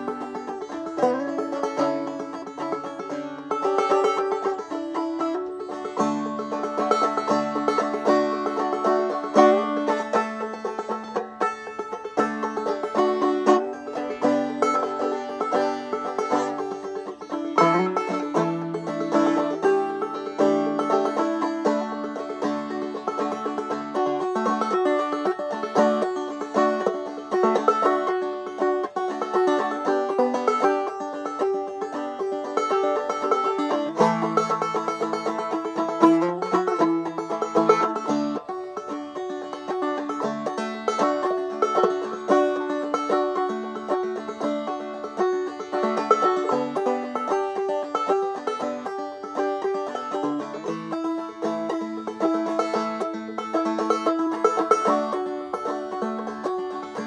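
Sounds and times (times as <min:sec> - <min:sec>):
banjo picking and strumming: 0:00.0 - 0:57.0.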